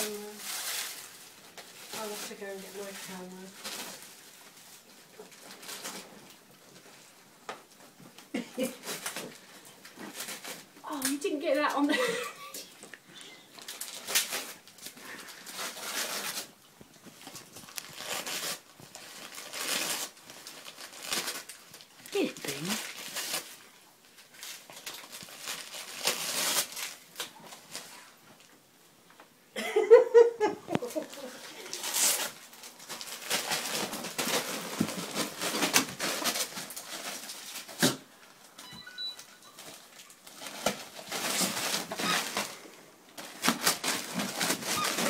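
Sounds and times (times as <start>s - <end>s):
dog tearing wrapping paper: 0.0s - 7.0s, 8.3s - 11.5s, 13.6s - 16.6s, 17.2s - 28.2s, 30.8s - 38.1s, 39.6s - 45.0s.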